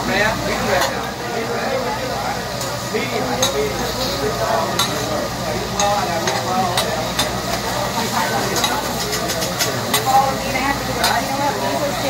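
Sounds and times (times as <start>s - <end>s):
restaurant chatter: 0.0s - 12.0s
vegetables sizzling on griddle: 0.0s - 12.0s.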